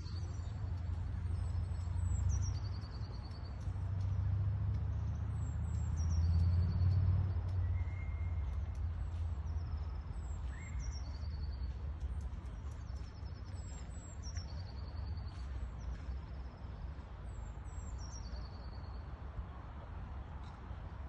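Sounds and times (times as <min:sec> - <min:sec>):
songbird singing: 0:00.0 - 0:19.5.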